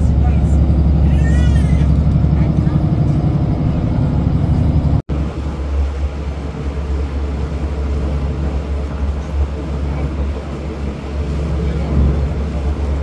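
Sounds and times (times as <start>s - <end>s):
constant wash of noise: 0.0s - 13.0s
ferry engines droning: 0.0s - 13.0s.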